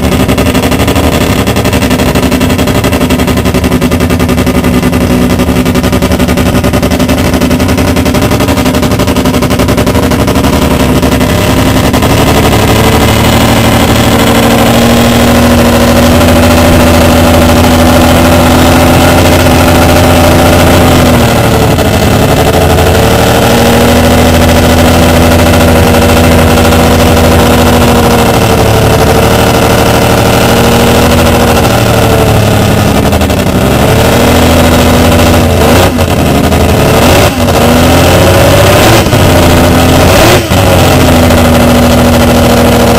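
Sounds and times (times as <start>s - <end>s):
loud racing engine revving: 0.0s - 42.9s.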